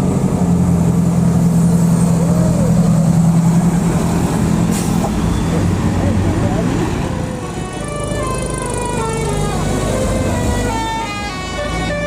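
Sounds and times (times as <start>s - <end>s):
diesel bus engine drone: 0.0s - 12.0s
road noise: 0.0s - 12.0s.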